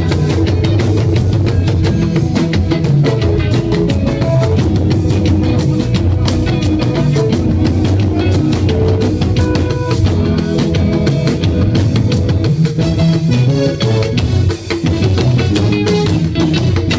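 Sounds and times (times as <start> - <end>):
drum kit: 0.0 - 16.9
electric guitar: 0.0 - 16.9.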